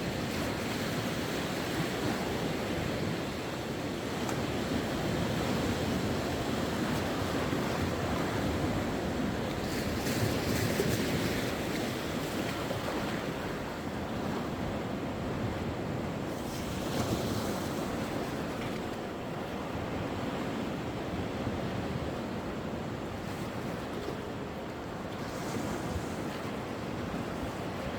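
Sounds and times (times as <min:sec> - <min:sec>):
sea waves breaking on shore: 0:00.0 - 0:27.9.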